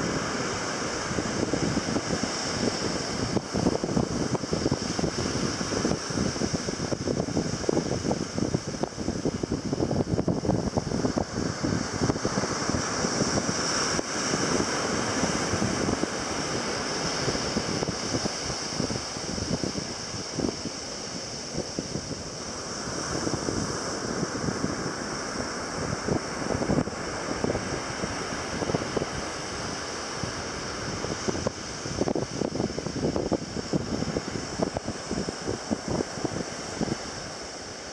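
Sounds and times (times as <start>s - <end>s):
surf breaking on shore: 0.0s - 37.9s
wind buffeting microphone: 0.0s - 37.9s.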